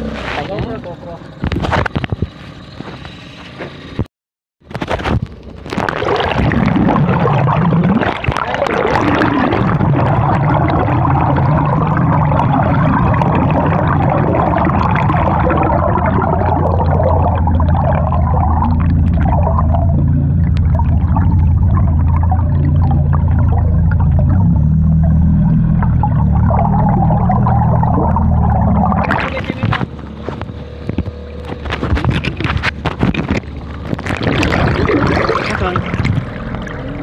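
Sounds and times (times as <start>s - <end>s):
low rumble: 5.1s - 37.0s
muffled underwater swirling: 5.6s - 37.0s.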